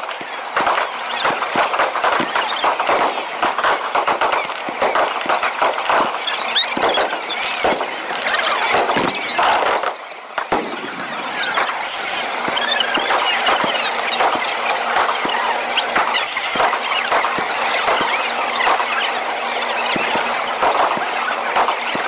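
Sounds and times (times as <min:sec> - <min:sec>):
firework bangs and crackling: 0:00.0 - 0:22.0
firework whistles: 0:00.0 - 0:22.0.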